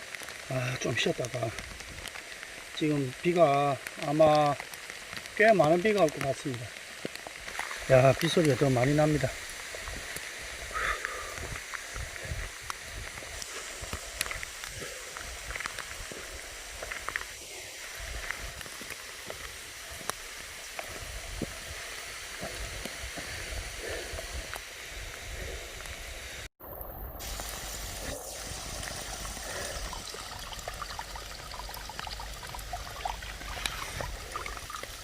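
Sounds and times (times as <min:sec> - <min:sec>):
heavy rain pouring: 0:00.0 - 0:35.0.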